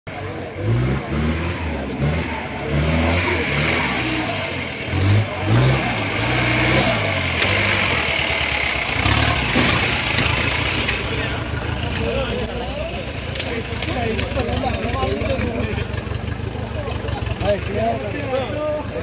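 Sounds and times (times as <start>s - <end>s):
off-road vehicle engine revving: 0.1s - 19.0s.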